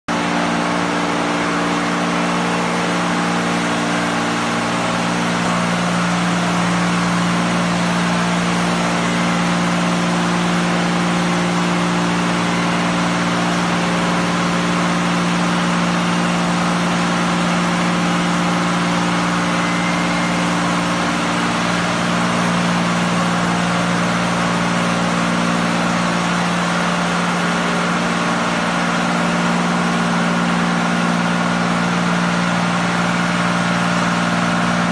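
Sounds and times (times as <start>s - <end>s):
car wash machine hum: 0.1s - 34.9s.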